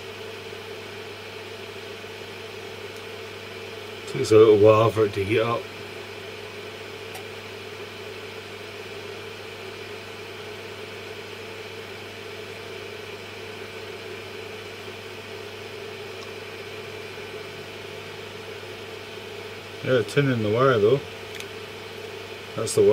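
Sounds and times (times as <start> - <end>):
fume extractor fan humming: 0.0 - 22.9.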